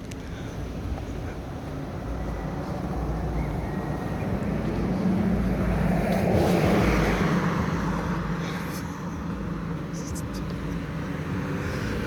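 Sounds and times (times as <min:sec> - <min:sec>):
low rumble of traffic: 0:00.0 - 0:12.0
car passing by: 0:02.0 - 0:12.0.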